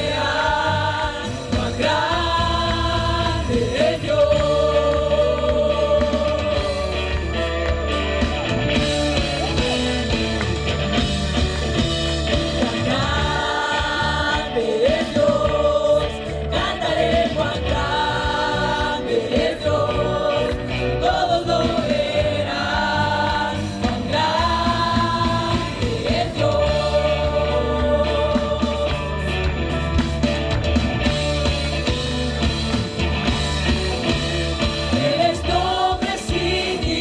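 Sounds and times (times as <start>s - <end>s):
voices singing long notes: 0.0s - 30.3s, 33.4s - 37.0s
band playing worship music: 0.0s - 37.0s.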